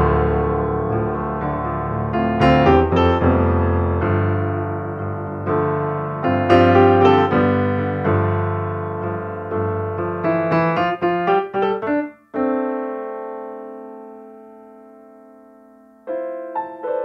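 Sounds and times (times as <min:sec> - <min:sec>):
high piano notes: 0:00.0 - 0:17.0
slow piano chords: 0:00.0 - 0:17.0.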